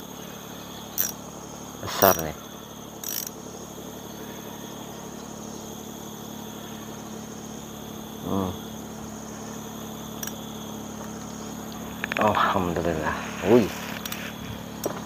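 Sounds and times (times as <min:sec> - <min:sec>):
insect chirring: 0:00.0 - 0:15.0
low steady hum: 0:00.0 - 0:15.0.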